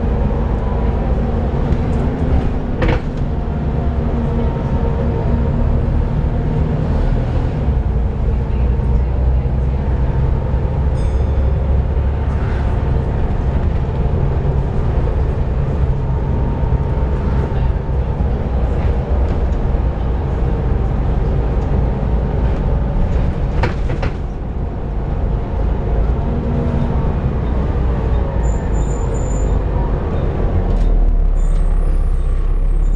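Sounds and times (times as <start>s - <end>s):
bus engine drone: 0.0s - 32.9s.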